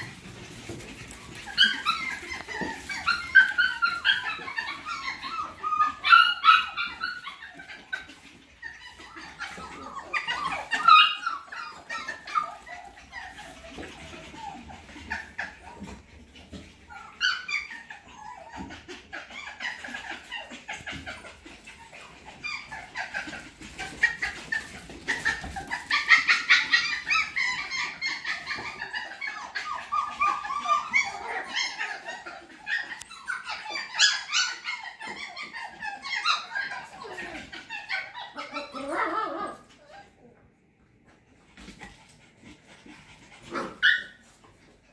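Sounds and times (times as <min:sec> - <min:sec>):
puppies yipping and whining: 0:00.0 - 0:44.9.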